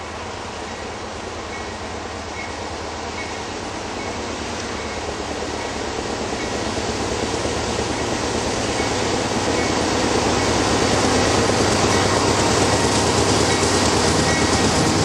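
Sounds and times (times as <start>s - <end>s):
diesel locomotives drone: 0.0s - 15.0s.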